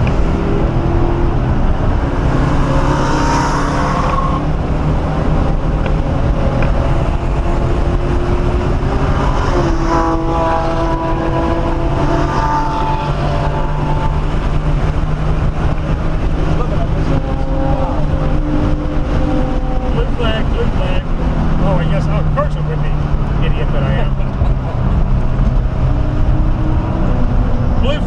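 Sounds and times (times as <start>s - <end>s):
car engine running hard: 0.0s - 28.0s
wind noise: 0.0s - 28.0s.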